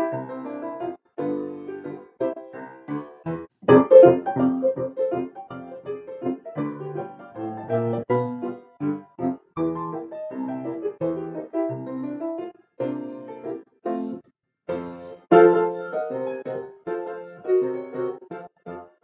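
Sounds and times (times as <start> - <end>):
ragtime piano: 0.0 - 19.0.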